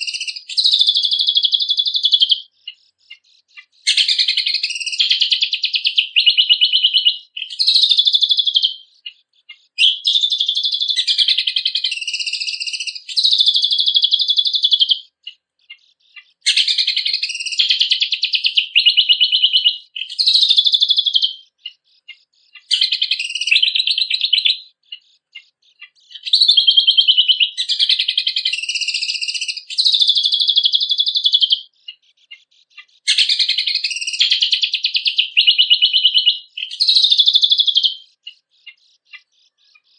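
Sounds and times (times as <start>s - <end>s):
songbird singing rapid trills: 0.0s - 39.9s.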